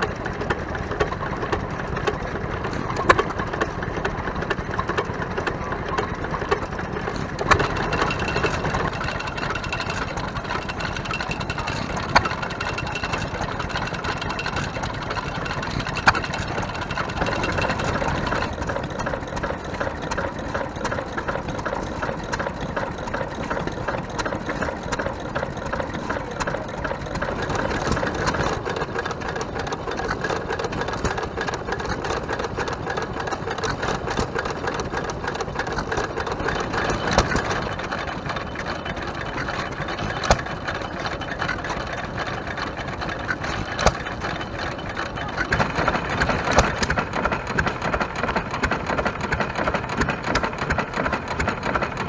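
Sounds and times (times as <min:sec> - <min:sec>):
stationary engines running: 0:00.0 - 0:52.0.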